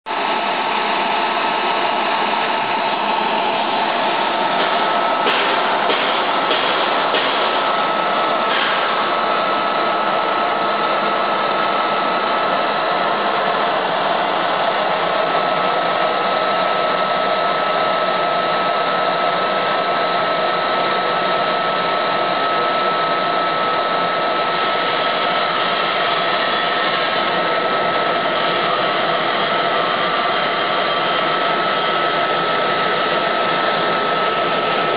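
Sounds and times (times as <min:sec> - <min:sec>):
collector fan whirring and whining: 0:00.1 - 0:34.9.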